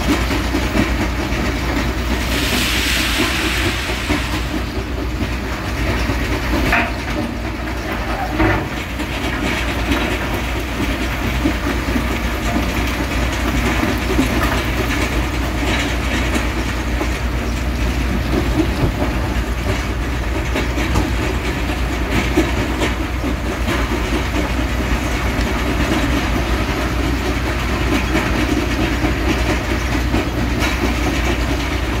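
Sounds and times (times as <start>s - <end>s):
excavator diesel engine and hydraulics: 0.0s - 32.0s.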